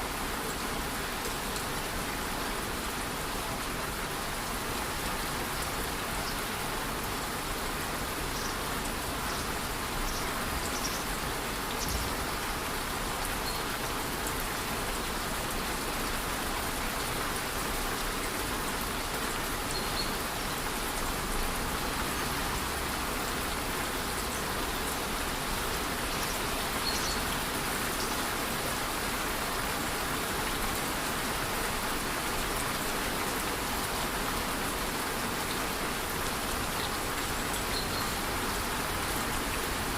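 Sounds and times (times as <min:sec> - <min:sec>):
light rain: 0:00.0 - 0:39.9.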